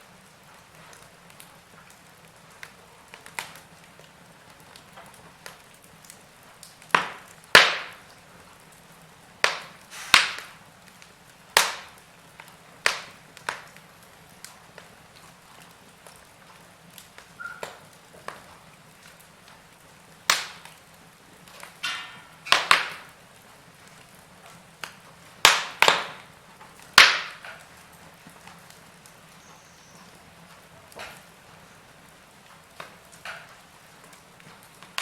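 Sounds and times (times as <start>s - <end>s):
faint steady hiss: 0.0s - 35.0s
logs crackling in fireplace: 0.0s - 35.0s
sharp fire pops: 0.3s - 8.8s, 9.4s - 15.4s, 16.0s - 23.2s, 23.8s - 29.5s, 30.9s - 31.4s, 32.5s - 35.0s.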